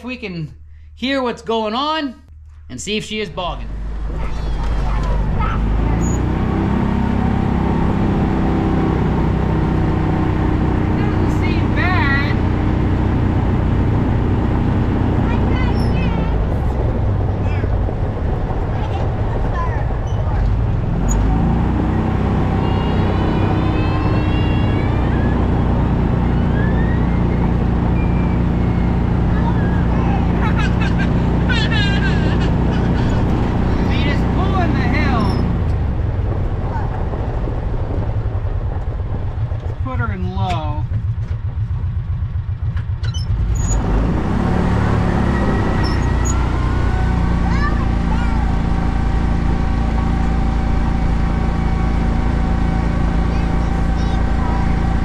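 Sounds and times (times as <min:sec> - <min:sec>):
utility vehicle engine running: 0:02.3 - 0:55.0
wind noise: 0:03.7 - 0:53.3.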